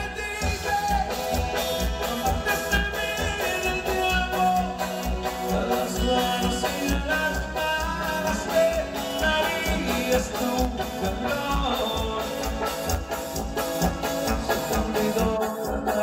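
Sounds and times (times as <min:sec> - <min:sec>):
live band playing dance music: 0:00.0 - 0:16.0.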